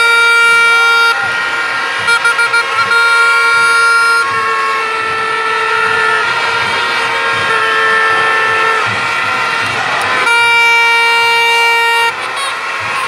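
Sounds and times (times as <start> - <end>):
crowd noise: 0.0 - 13.0
handheld horns blaring: 0.0 - 13.0.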